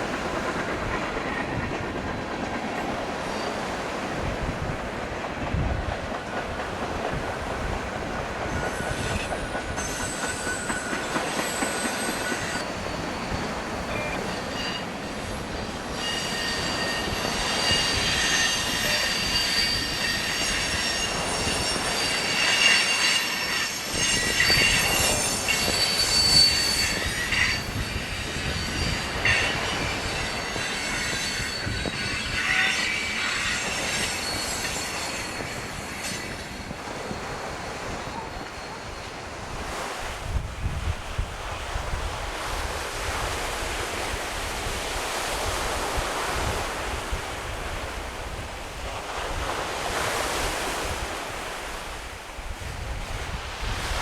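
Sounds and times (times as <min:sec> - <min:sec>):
steel wheels squealing on rail: 0:00.0 - 0:54.0
wind buffeting microphone: 0:00.0 - 0:54.0.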